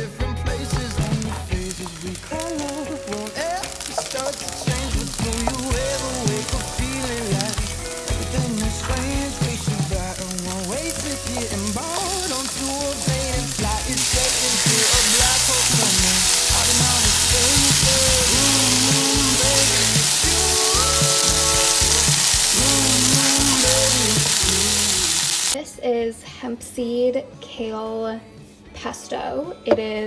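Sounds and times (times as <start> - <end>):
vegetables sizzling in a frying pan: 0.7 - 25.6.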